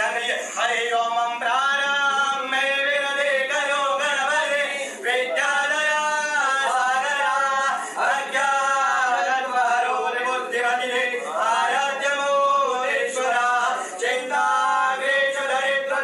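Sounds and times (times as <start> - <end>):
man chanting in a sung voice: 0.0 - 16.0.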